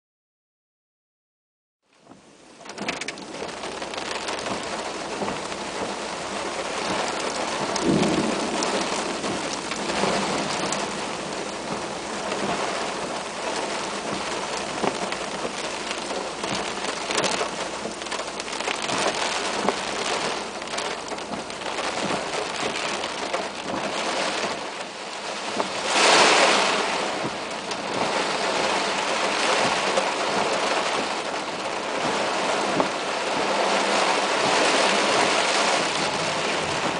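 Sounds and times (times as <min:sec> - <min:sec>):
rain drumming on car roof: 0:01.8 - 0:36.9.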